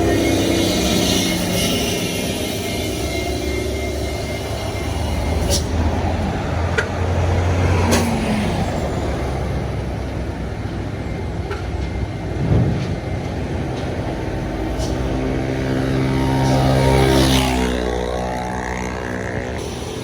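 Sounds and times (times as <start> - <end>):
heavy vehicle passing close: 0.0 - 20.0
road traffic: 0.0 - 20.0.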